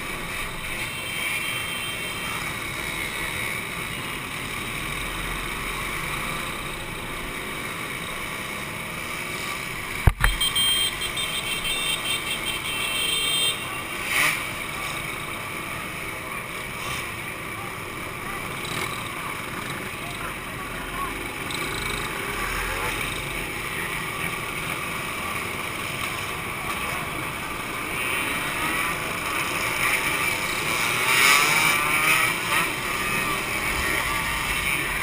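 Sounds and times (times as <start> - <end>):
two-stroke motorcycle engines: 0.0 - 35.0.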